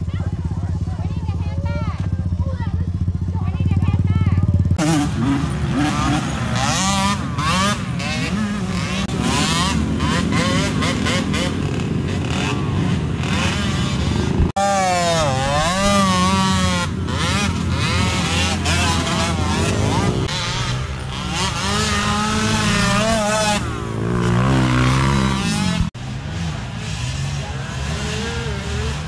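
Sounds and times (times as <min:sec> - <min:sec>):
quad engines revving: 0:00.0 - 0:29.0.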